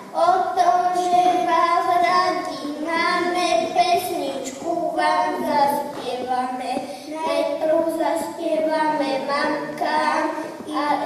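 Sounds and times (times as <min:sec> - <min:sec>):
children singing into a microphone: 0:00.0 - 0:11.0.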